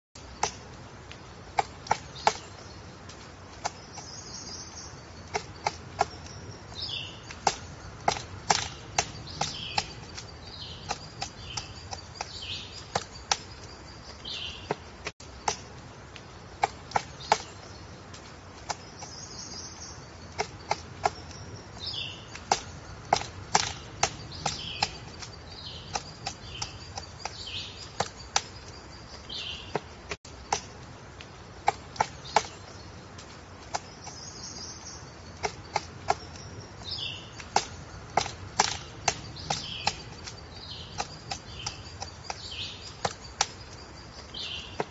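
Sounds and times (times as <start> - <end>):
high falling bird calls: 0.2 - 44.9
woodpecker pecking wood: 0.2 - 44.9.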